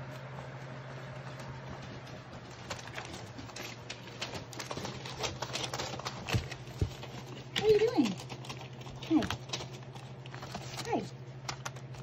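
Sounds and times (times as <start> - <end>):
puppy paws scrabbling on newspaper: 0.0 - 12.0
steady low hum: 0.0 - 12.0.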